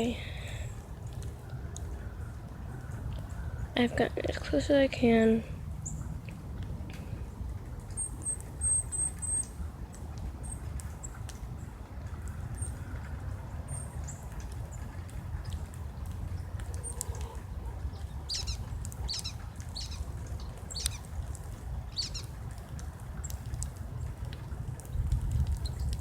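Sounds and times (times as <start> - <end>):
songbirds chirping: 0.0 - 26.0
steady low rumble: 0.0 - 26.0.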